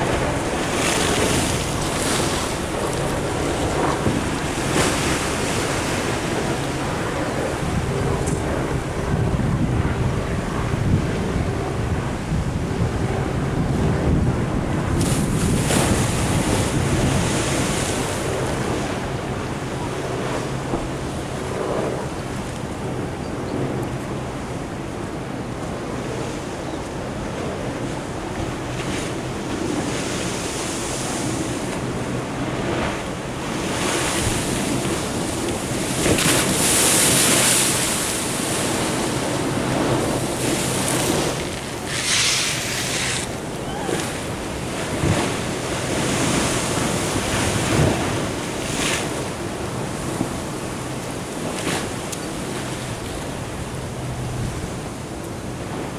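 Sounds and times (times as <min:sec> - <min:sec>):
ocean surf washing in: 0:00.0 - 0:26.4, 0:27.0 - 0:55.9
wind buffeting microphone: 0:00.0 - 0:55.9.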